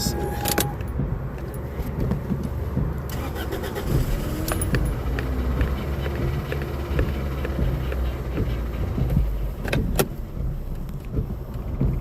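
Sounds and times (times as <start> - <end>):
car engine running unevenly: 0.0 - 12.0.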